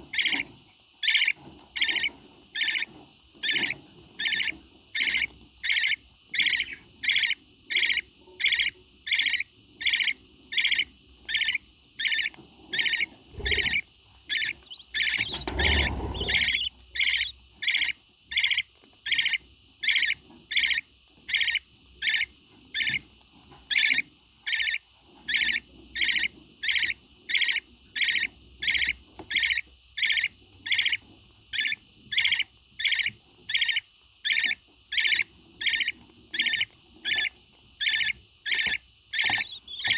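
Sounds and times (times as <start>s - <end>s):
parrot chirping: 0.1s - 39.9s.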